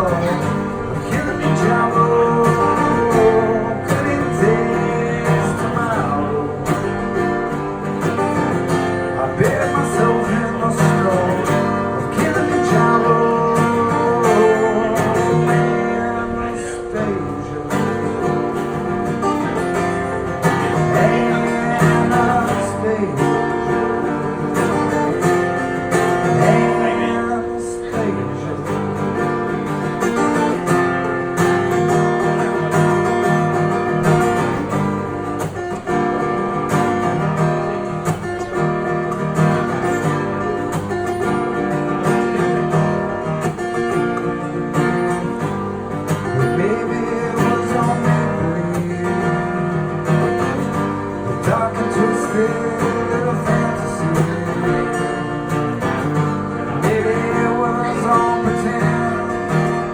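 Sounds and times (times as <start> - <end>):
acoustic guitar strumming: 0.0 - 59.9
person singing: 0.0 - 59.9.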